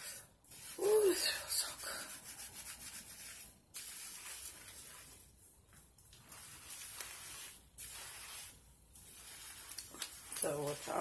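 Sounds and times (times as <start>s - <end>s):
fingers scrubbing wet hair: 0.5s - 5.2s, 6.1s - 11.0s.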